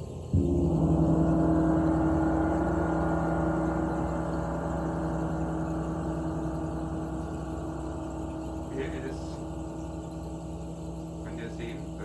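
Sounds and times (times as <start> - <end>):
large gong ringing: 0.2 - 12.0.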